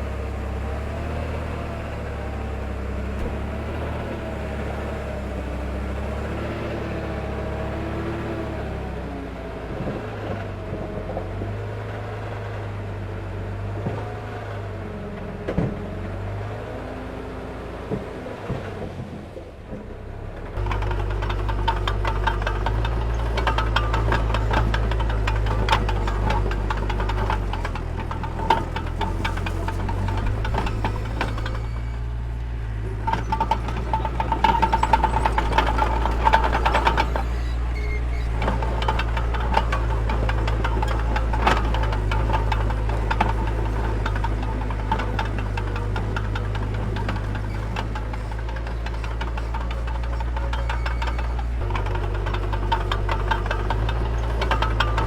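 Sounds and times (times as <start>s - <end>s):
tracks clanking and squeaking: 0.0s - 12.1s, 17.8s - 55.0s
heavy equipment diesel engine: 0.0s - 55.0s.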